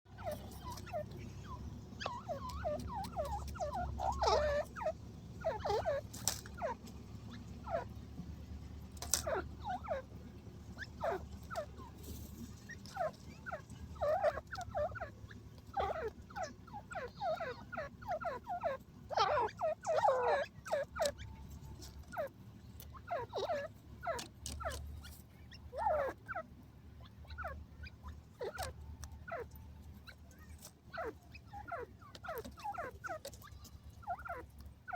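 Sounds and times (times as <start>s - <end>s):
francolin clucking calls: 0.1s - 8.1s, 8.8s - 34.9s.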